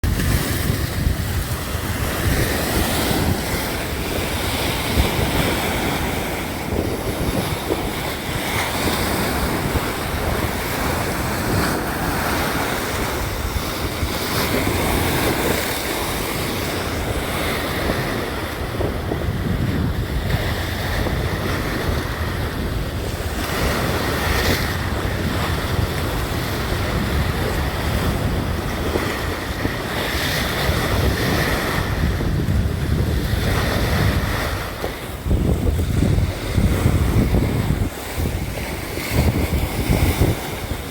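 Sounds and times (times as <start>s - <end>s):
sea waves washing: 0.0s - 40.9s
wind noise on microphone: 0.0s - 40.9s.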